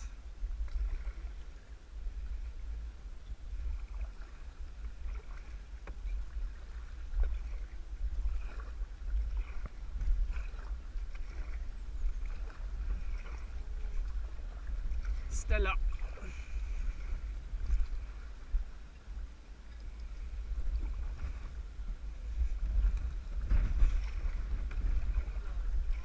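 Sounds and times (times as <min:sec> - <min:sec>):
paddle splashing in water: 0:00.0 - 0:02.8, 0:03.4 - 0:26.0.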